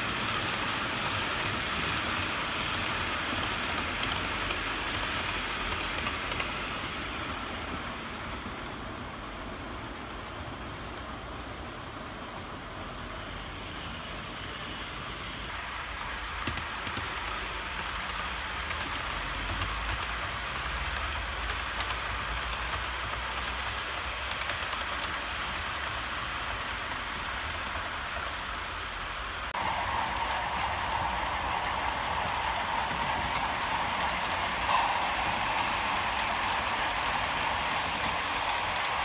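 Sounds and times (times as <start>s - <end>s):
model train wheels on track: 0.0s - 39.0s.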